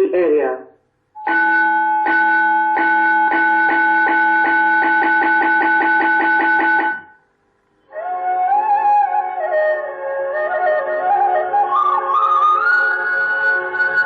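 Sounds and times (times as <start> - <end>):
flute music: 1.2 - 7.1, 7.8 - 14.0.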